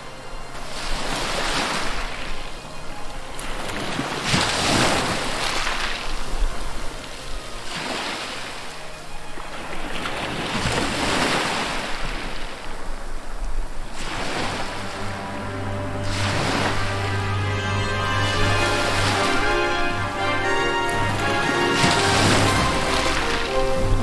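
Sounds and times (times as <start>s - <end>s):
wind and sea wash: 0.0s - 24.0s.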